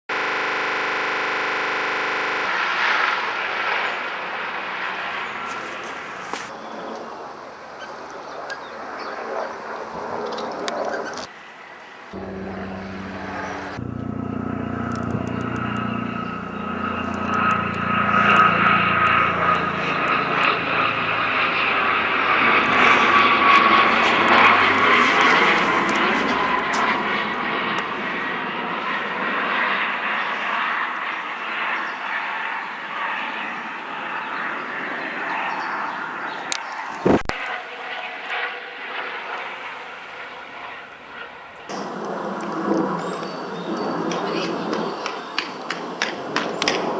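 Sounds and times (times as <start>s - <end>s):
aircraft flying overhead: 0.1s - 46.9s.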